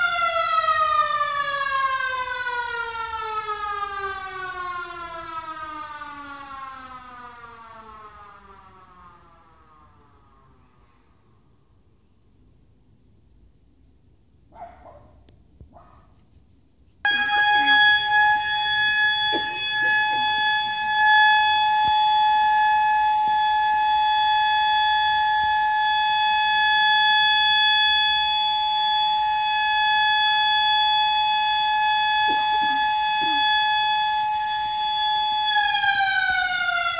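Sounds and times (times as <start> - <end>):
air raid siren: 0.0 - 11.7, 17.0 - 36.9.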